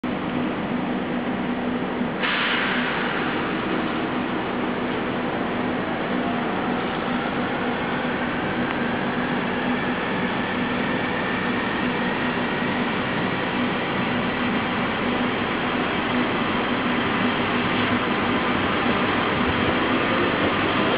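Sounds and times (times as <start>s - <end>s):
electric train hum: 0.0s - 20.9s.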